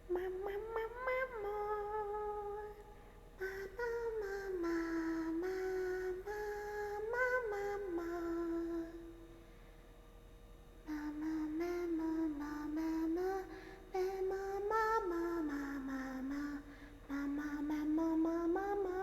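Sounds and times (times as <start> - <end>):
woman humming a slow tune: 0.0 - 9.3, 10.8 - 19.0.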